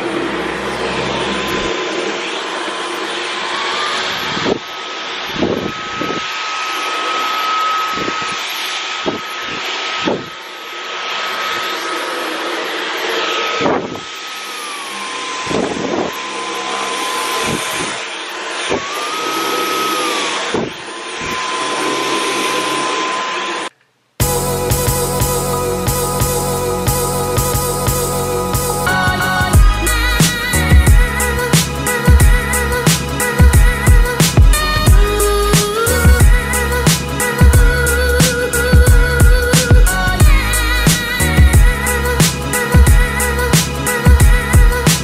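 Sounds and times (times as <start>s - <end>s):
rushing hiss of air: 0.0s - 45.0s
vacuum cleaner motor whine: 0.0s - 45.0s.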